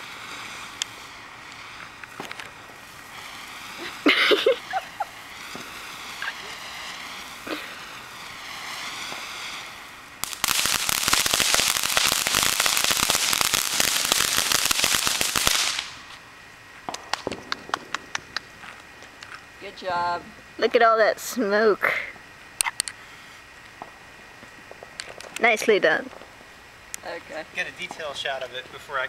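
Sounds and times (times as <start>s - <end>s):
sparkler pops: 0.0s - 16.2s, 16.8s - 19.4s, 23.6s - 29.0s
sparklers crackling loudly: 0.0s - 29.0s
sparklers hissing: 0.0s - 29.0s.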